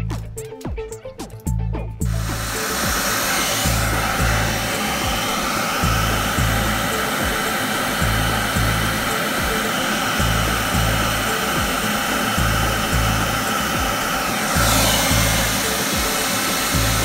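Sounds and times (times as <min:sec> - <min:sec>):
music with bass beat: 0:00.0 - 0:17.0
air pump blower rushing: 0:02.0 - 0:17.0.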